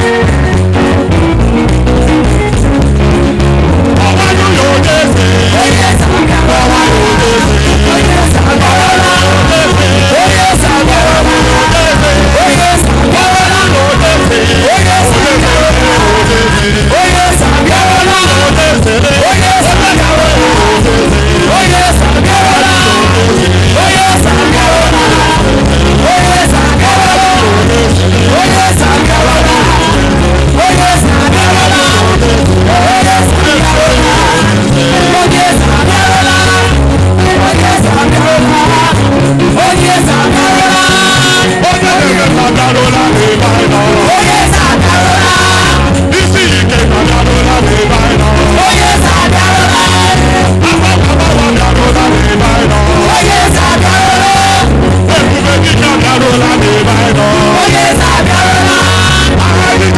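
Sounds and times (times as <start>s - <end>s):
praise music with singing: 0.0s - 59.9s.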